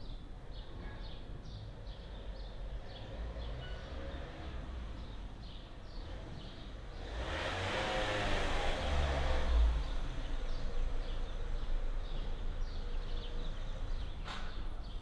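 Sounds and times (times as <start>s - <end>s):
small birds chirping: 0.0s - 7.6s, 9.2s - 15.0s
passing vehicle rumble: 2.2s - 15.0s.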